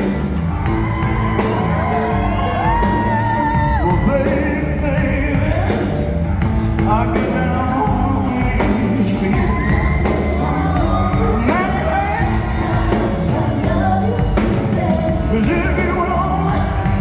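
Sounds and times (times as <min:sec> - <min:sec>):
live band playing soul ballad: 0:00.0 - 0:17.0
man singing: 0:01.4 - 0:17.0.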